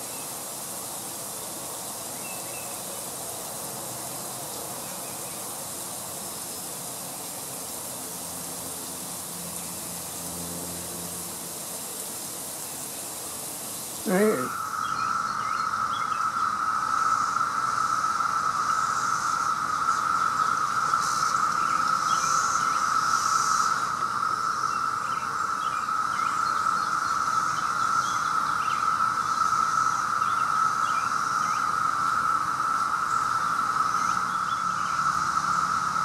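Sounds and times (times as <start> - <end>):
cicada chorus drone: 0.0 - 36.0.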